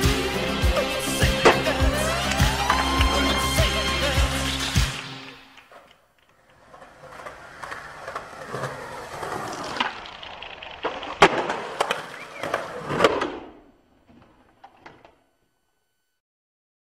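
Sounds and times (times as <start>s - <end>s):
skateboard wheels rolling on concrete: 0.0s - 15.3s
skateboard clacks: 1.0s - 15.1s.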